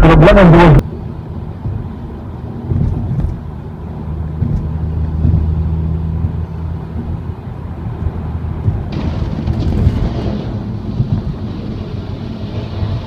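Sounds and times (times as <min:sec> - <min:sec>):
road rumble: 0:00.0 - 0:13.0
vehicle engine running: 0:00.8 - 0:13.0.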